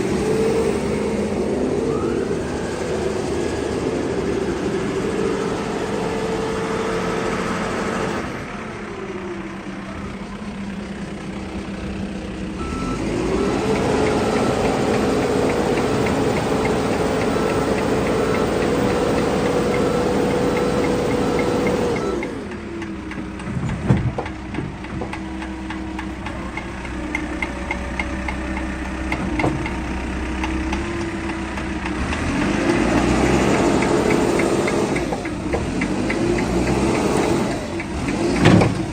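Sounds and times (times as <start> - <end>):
diesel engine revving and idling: 0.0 - 38.9.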